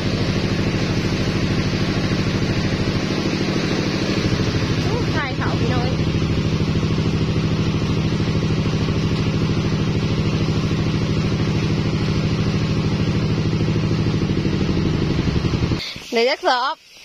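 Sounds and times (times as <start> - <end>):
threshing machine engine running: 0.0 - 16.7.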